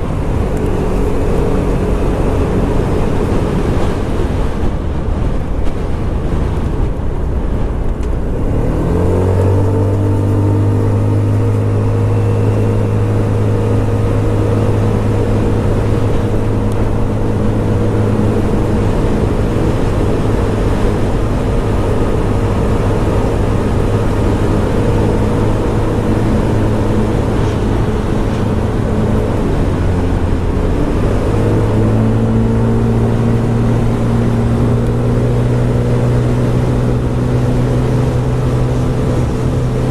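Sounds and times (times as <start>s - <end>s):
road and wind noise: 0.0s - 39.9s
scooter engine accelerating: 0.0s - 39.9s.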